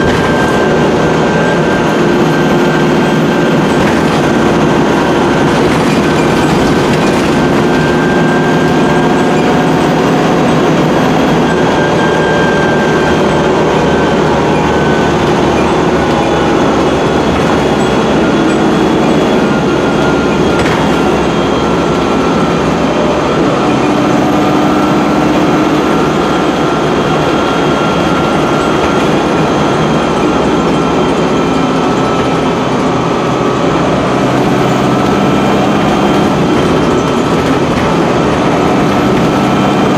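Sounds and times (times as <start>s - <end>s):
bus diesel engine running: 0.0s - 39.9s
road noise: 0.0s - 39.9s
steady high whine: 0.0s - 39.9s.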